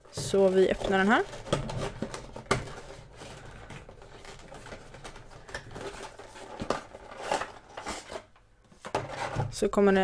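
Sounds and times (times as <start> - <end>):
packaging rustling: 0.0 - 9.0.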